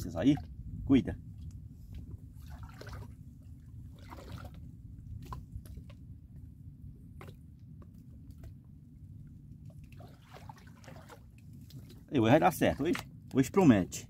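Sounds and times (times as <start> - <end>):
light water splashes: 0.0 - 14.0
steady low rumble: 0.0 - 14.0
soft water drips: 1.2 - 13.5.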